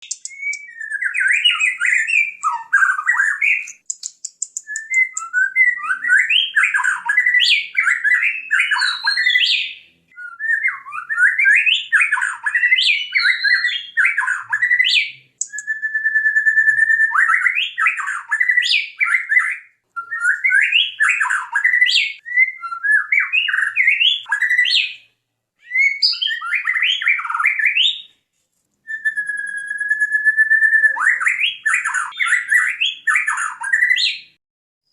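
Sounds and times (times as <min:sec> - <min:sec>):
bird singing whistles and trills: 0:00.0 - 0:28.1, 0:28.9 - 0:34.9.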